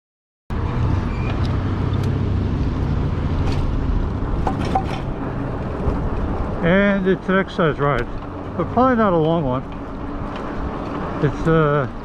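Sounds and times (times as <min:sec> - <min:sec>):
street and vehicle rumble: 0:00.5 - 0:12.0.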